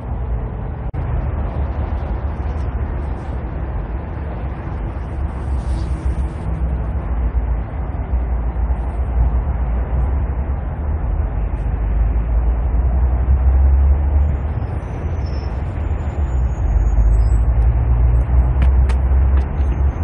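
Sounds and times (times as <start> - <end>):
low rumble with hiss: 0.0 - 20.0.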